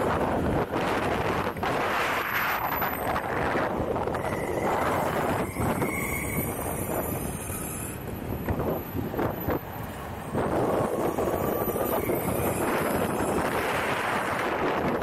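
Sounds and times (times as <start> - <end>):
skateboard wheels rumbling on asphalt: 0.0 - 15.0
wind buffeting microphone: 0.0 - 15.0.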